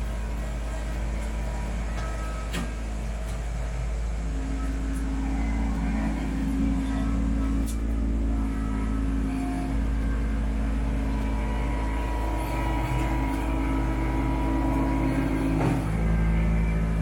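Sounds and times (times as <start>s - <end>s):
thin engine whine: 0.0s - 17.0s
tractor diesel engine running: 0.0s - 17.0s.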